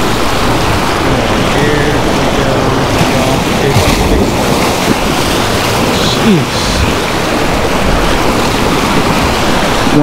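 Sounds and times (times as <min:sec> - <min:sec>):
waves surging over rocks: 0:00.0 - 0:10.0.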